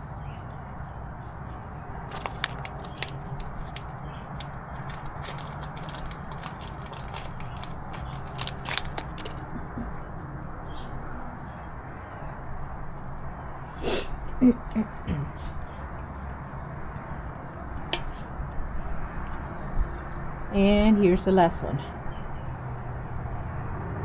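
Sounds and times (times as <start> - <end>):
low background hum: 0.0 - 23.8.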